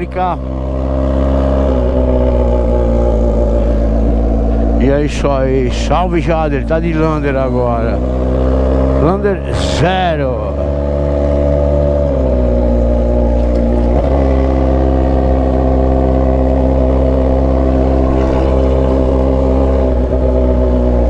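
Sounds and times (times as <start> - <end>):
motorcycle engine loud exhaust: 0.0 - 21.0.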